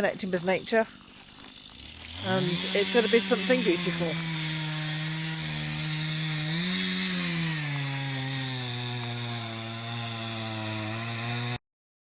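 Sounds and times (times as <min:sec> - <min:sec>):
chainsaw running: 0:00.0 - 0:11.6.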